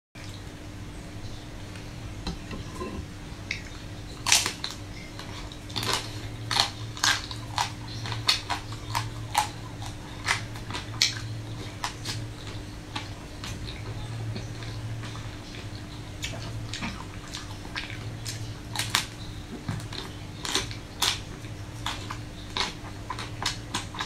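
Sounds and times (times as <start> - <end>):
faint low hum: 0.2 - 24.0
ice cream bar crunching: 4.1 - 24.0.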